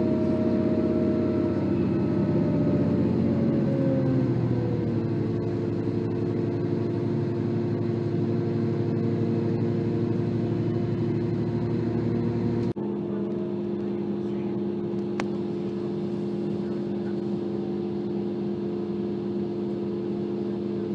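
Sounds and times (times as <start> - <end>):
diesel train engine rumbling: 0.0 - 20.9.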